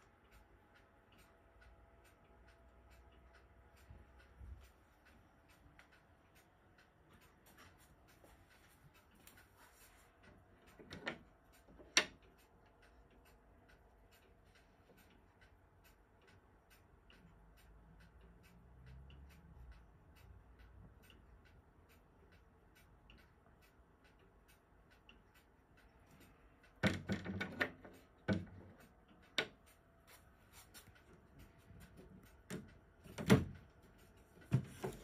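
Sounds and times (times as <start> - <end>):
clock ticking faintly: 0.0 - 35.0.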